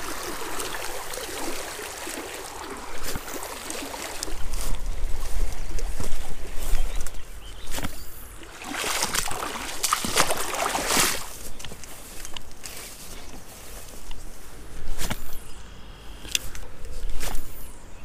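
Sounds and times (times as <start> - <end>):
footsteps through wet grass: 0.0 - 15.4, 16.4 - 17.6
wind rumbling on microphone: 0.0 - 18.0.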